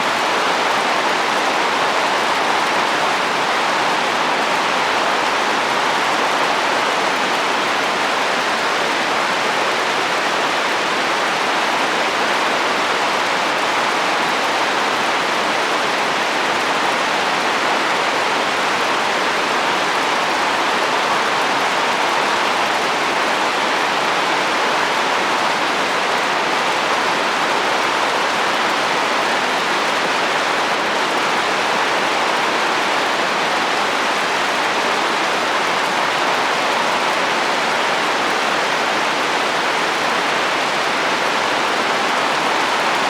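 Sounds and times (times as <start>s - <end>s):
heavy rain on a roof: 0.0s - 43.0s.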